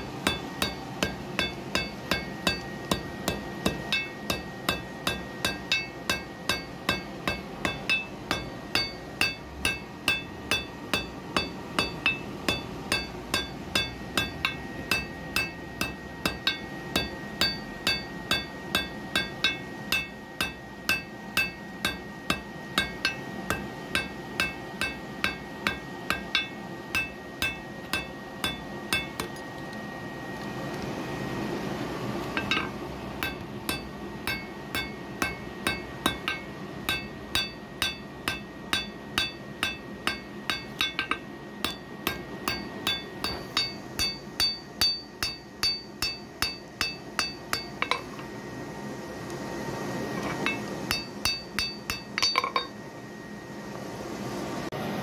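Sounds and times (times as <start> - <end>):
hammer beating iron on anvil: 0.0 - 29.5, 32.4 - 48.1, 50.4 - 52.8.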